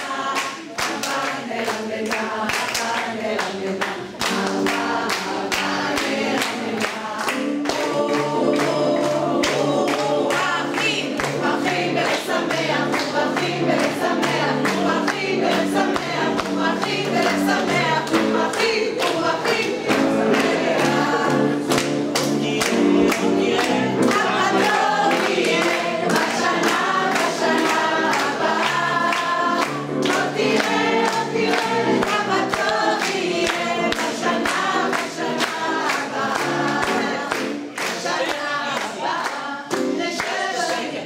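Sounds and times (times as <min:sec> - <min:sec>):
mixed choir singing: 0:00.0 - 0:41.0
rhythmic hand-clapping: 0:00.0 - 0:41.0.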